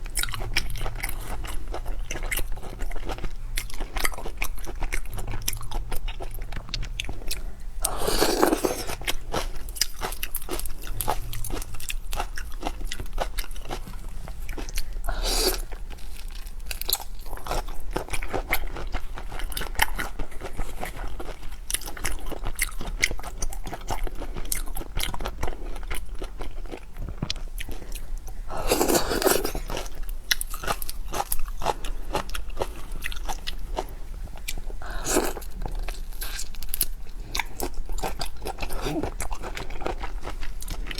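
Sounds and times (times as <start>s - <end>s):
person crunching and chewing food: 0.0s - 40.9s.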